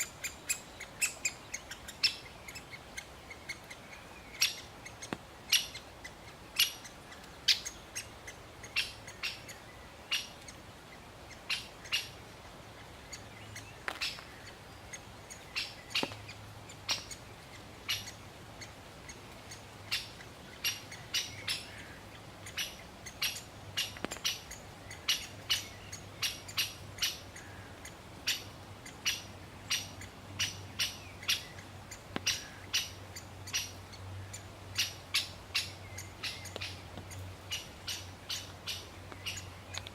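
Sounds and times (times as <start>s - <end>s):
woodpecker calling: 0.0s - 39.9s.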